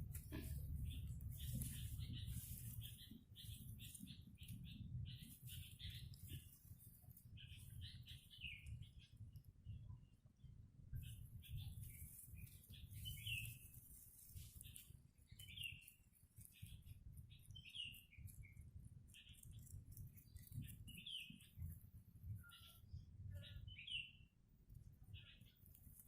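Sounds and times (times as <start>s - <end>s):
low steady rumble: 0.0s - 22.4s
small bird chirping: 0.0s - 26.0s.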